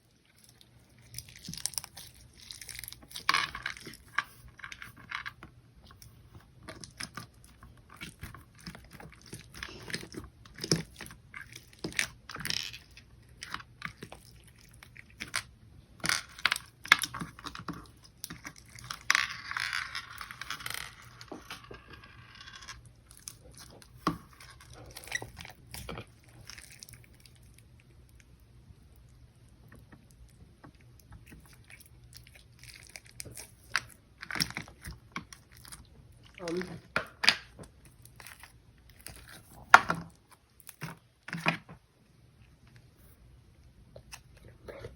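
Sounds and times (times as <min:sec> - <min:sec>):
bead slime crunching and crackling: 0:00.1 - 0:41.4.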